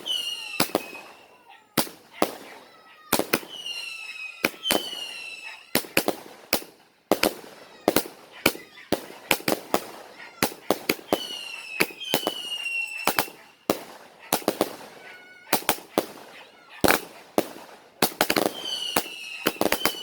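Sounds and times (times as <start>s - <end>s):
firework whistle: 0.0s - 17.5s, 18.1s - 20.0s
firework bangs: 0.0s - 20.0s.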